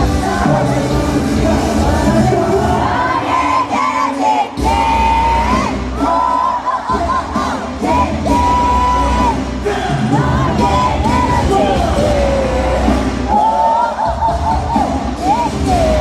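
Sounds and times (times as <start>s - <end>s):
crowd yelling along: 0.0s - 16.0s
live pop song over sound system: 0.0s - 16.0s.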